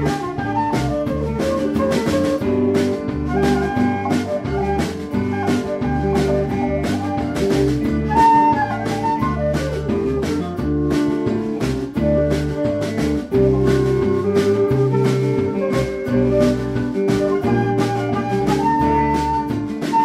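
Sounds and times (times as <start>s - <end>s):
bass: 0.0s - 20.0s
drums steady beat: 0.0s - 20.0s
guitar: 0.0s - 20.0s.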